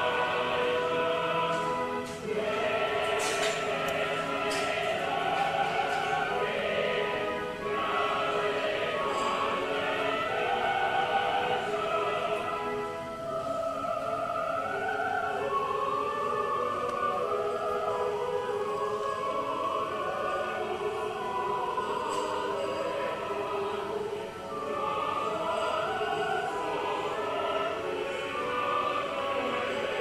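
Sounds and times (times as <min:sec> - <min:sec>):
opera-style choral singing: 0:00.0 - 0:30.0.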